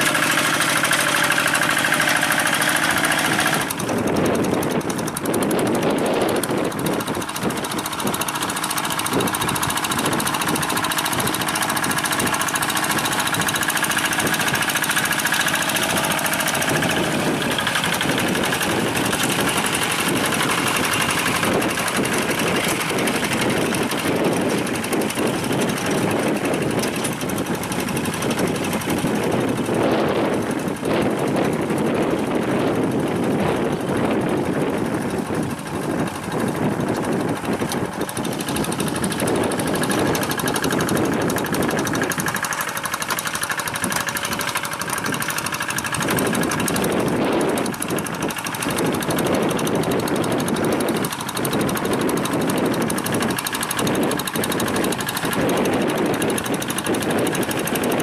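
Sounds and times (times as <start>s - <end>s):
diesel hand tractor chugging: 0.0s - 58.0s.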